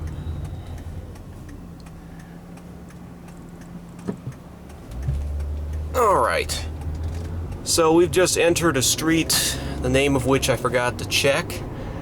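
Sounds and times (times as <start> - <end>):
car engine and road noise: 0.0 - 12.0
turn signal ticking: 0.0 - 12.0.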